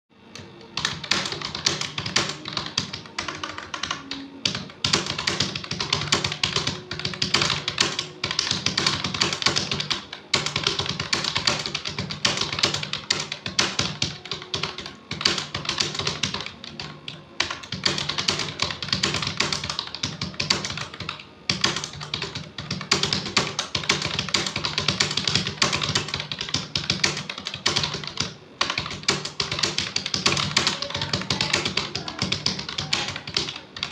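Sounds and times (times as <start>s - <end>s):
fast typing on keyboard: 0.4s - 33.9s.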